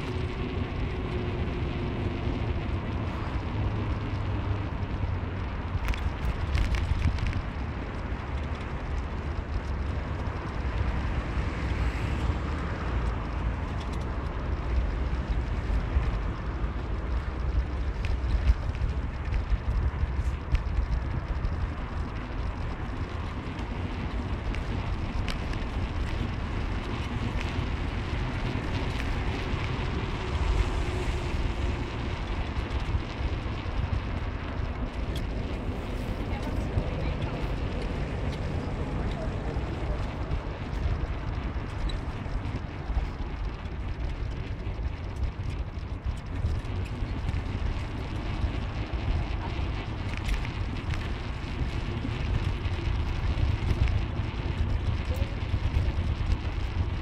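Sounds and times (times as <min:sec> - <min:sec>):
moving car rumble: 0:00.0 - 0:57.0
wind: 0:00.0 - 0:57.0.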